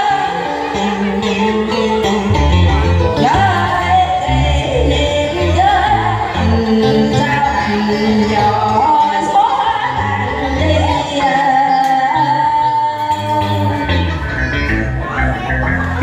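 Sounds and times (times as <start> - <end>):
woman singing into a microphone: 0.0 - 14.3
instrumental accompaniment: 0.0 - 16.0.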